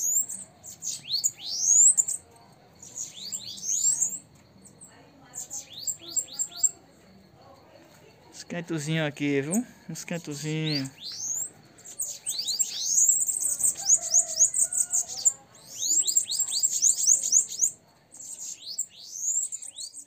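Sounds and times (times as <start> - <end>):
birds singing high thin notes: 0.0 - 20.0.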